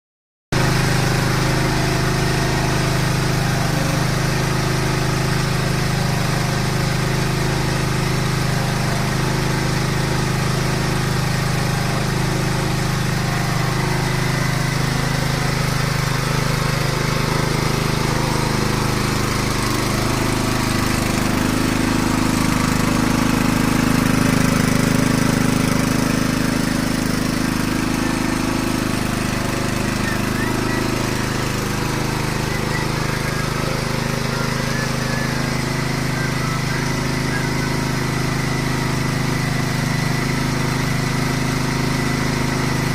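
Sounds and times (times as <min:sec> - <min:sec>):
conveyor mechanism running: 0:00.6 - 0:42.9
small engine running: 0:00.6 - 0:42.9.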